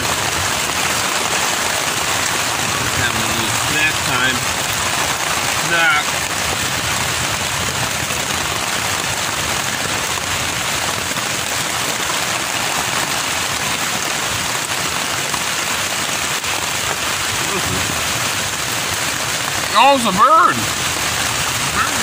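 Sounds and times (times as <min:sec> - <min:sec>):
rain on a tent: 0:00.0 - 0:22.0.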